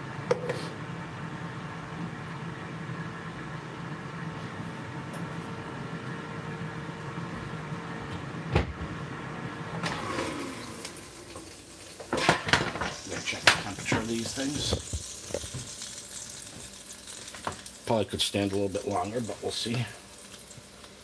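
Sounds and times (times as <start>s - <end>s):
air fryer fan humming: 0.0s - 21.0s.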